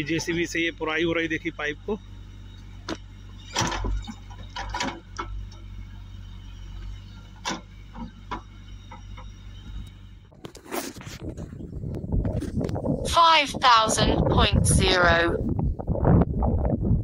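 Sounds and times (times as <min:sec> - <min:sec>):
diesel engine running: 0:00.0 - 0:16.4.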